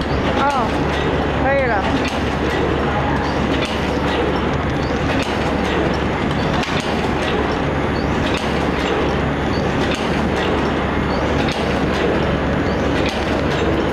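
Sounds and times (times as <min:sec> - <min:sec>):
machine clicks and clacks: 0:00.0 - 0:13.9
machine mechanical din: 0:00.0 - 0:13.9.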